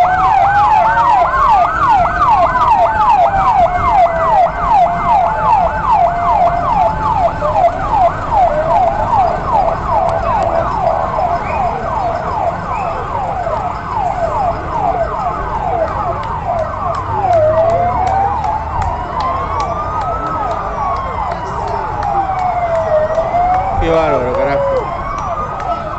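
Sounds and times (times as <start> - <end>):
fire engine sirens yelping: 0.0 - 25.9
low rumble of trucks: 0.0 - 25.9.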